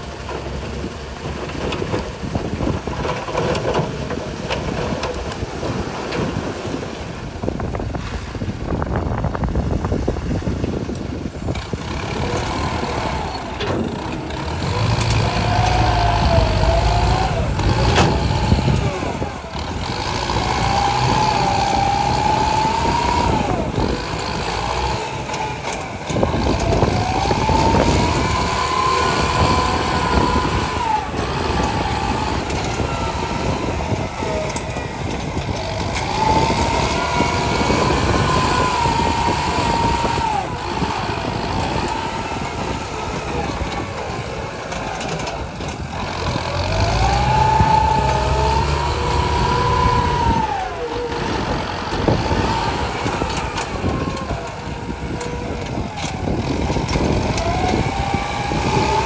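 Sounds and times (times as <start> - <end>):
truck engine with whine: 0.0 - 59.0.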